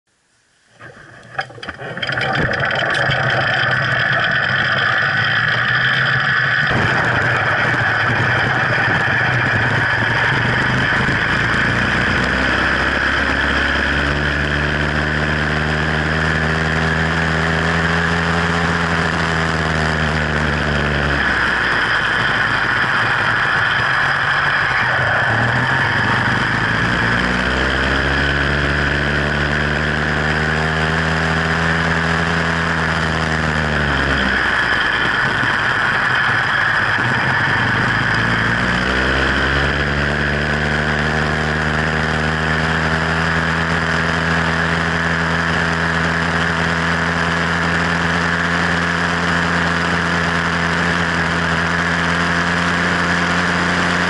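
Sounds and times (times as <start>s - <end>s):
two-stroke bicycle engine running: 0.8s - 54.0s.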